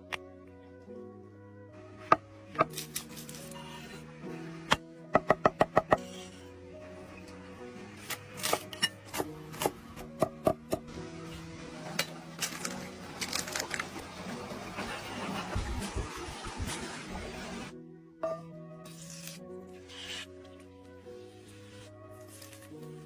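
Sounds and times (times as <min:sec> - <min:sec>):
background music with held notes: 0:00.0 - 0:23.0.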